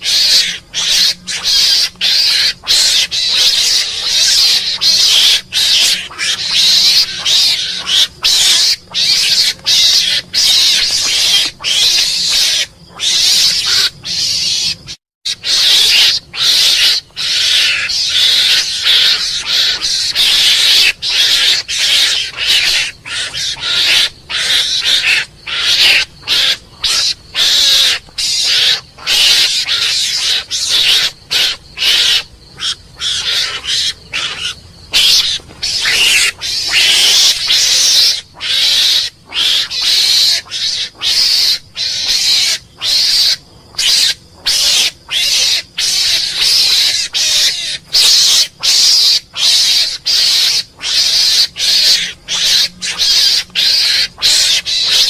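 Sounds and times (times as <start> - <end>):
mongoose raspy calls: 0.0 - 55.0.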